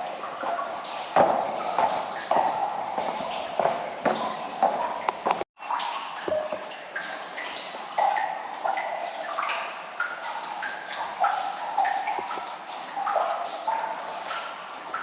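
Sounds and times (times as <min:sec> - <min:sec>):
water dripping in a cave: 0:00.0 - 0:15.0.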